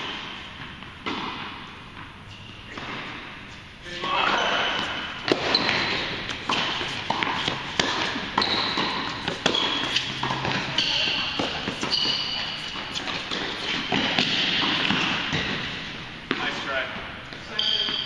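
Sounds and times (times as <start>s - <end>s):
ball bouncing on hard court: 0.0s - 3.3s, 4.2s - 18.0s
rackets striking tennis ball: 0.0s - 18.0s.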